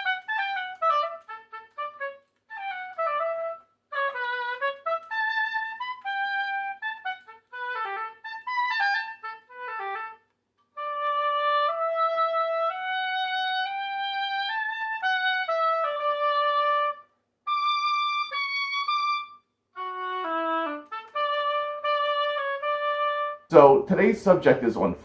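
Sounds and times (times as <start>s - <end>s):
clarinet playing slow melody: 0.0s - 23.8s.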